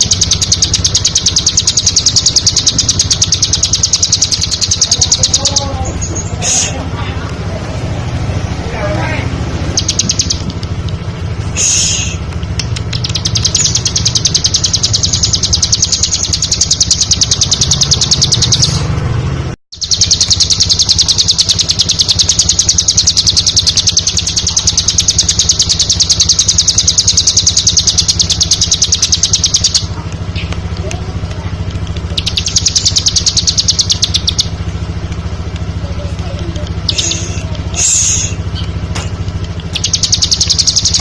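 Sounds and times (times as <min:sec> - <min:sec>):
bird singing high chirps: 0:00.0 - 0:06.8, 0:09.6 - 0:10.6, 0:11.6 - 0:18.9, 0:19.7 - 0:30.6, 0:32.0 - 0:34.6, 0:36.4 - 0:41.0
steady low hum: 0:00.0 - 0:41.0.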